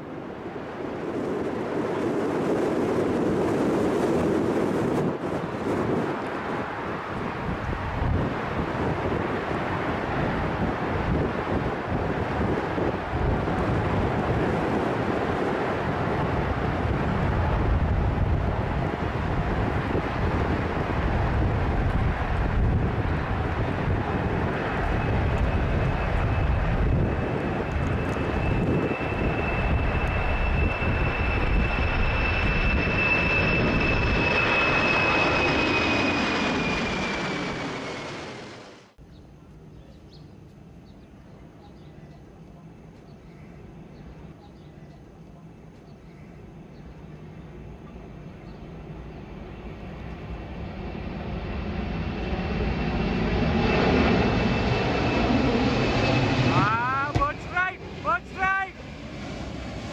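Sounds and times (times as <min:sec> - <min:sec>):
jet engines roaring: 0:00.0 - 0:39.0, 0:46.9 - 0:59.9
high jet engine whine: 0:00.0 - 0:59.9.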